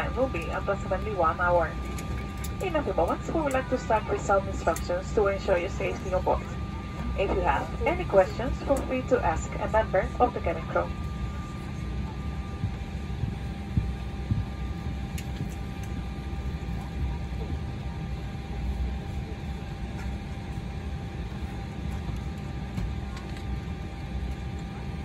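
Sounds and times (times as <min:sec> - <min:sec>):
faint steady whining tones: 0:00.0 - 0:25.0
jet cabin low rumble: 0:00.0 - 0:25.0.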